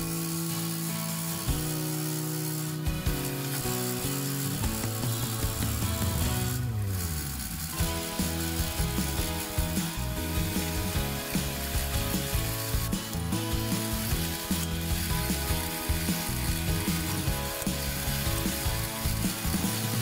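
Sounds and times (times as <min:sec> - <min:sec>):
milling machine cutting steel: 0:00.0 - 0:20.0.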